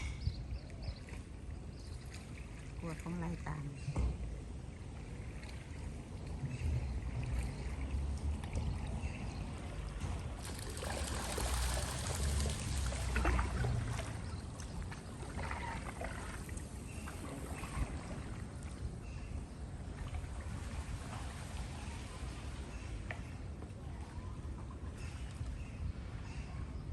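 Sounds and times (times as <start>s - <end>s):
oars splashing water: 0.0s - 26.6s.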